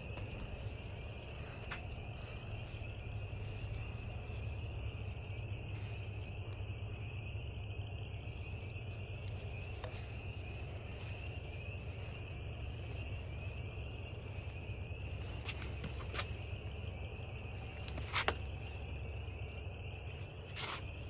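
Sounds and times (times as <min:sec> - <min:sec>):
crickets chirping: 0:00.0 - 0:21.0
low steady hum: 0:00.0 - 0:21.0.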